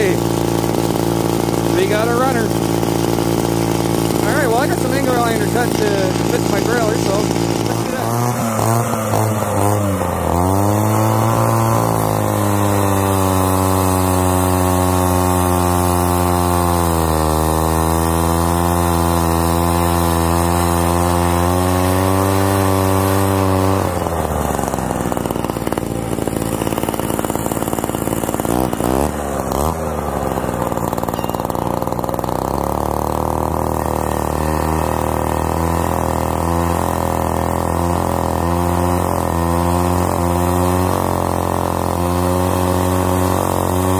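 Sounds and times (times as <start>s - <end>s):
cut-off saw engine running: 0.0s - 43.9s.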